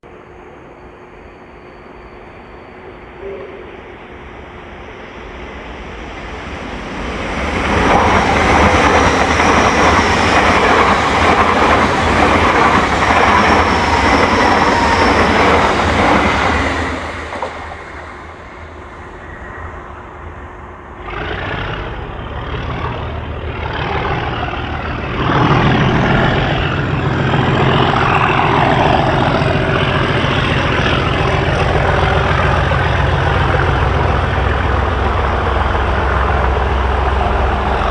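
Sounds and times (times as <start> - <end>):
train brakes and wheels squealing: 0.0 - 37.9
locomotive diesel engine: 3.2 - 37.9.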